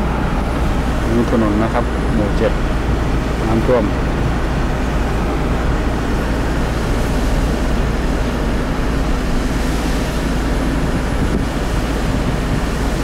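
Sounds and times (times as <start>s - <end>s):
car road noise from inside: 0.0s - 13.0s.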